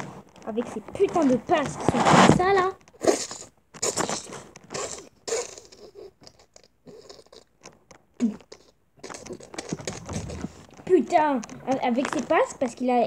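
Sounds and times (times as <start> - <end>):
clothing rustling and scratching: 0.0 - 5.2, 7.4 - 13.0.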